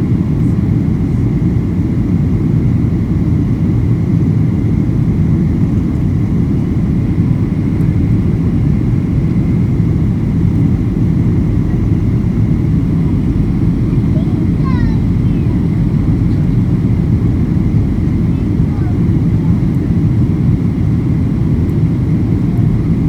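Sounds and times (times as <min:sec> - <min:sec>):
airplane cabin engine rumble: 0:00.0 - 0:23.0.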